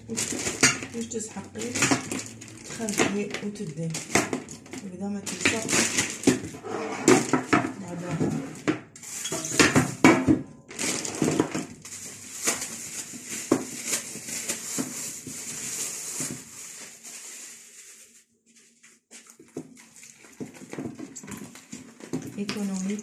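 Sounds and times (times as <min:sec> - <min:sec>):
cling film crinkling: 0:00.0 - 0:06.6, 0:10.7 - 0:23.0.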